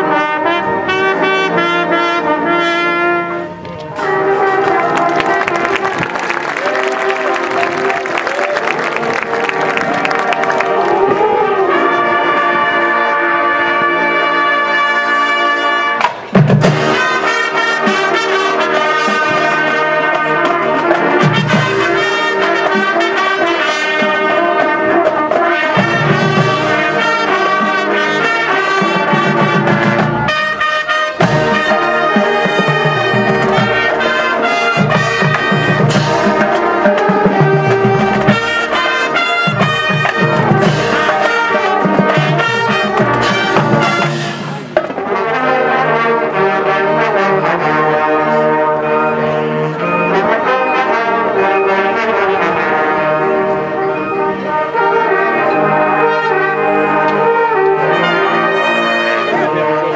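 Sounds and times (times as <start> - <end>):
marching band playing: 0.0 - 59.9
trumpets and trombones: 0.0 - 59.9.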